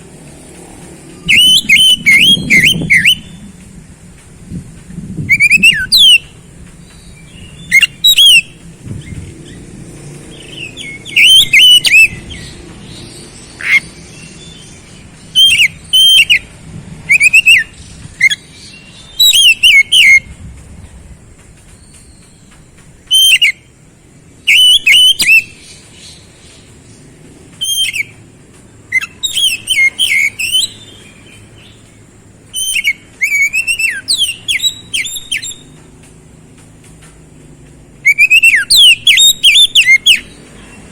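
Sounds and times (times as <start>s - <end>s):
bird singing whistled notes: 1.0s - 3.7s, 5.1s - 20.4s, 21.7s - 23.8s, 24.4s - 26.8s, 27.5s - 28.2s, 28.9s - 35.9s, 38.0s - 40.9s.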